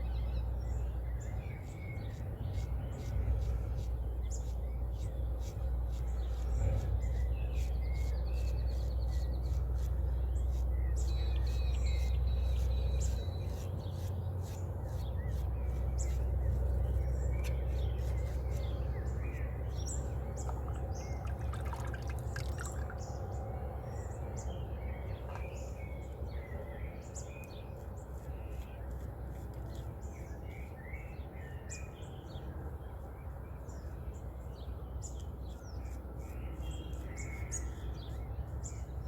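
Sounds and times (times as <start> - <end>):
birds chirping and trilling: 0.0 - 39.0.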